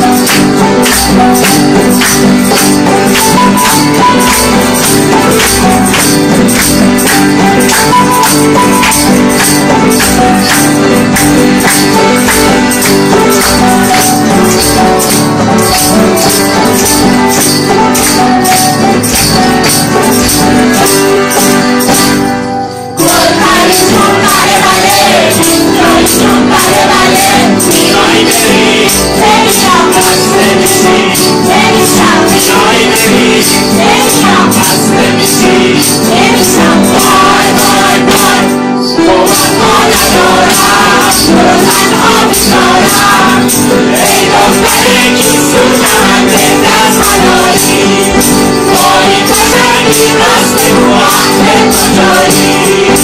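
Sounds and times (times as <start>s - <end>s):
group of voices singing: 0.0s - 21.9s, 22.9s - 53.0s
accordion: 0.0s - 53.0s
piano: 0.0s - 53.0s
tambourine beat: 0.0s - 53.0s.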